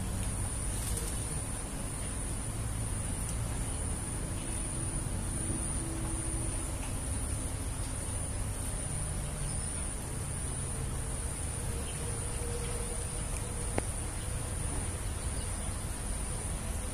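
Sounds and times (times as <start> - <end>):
insects chirring: 0.0 - 16.9.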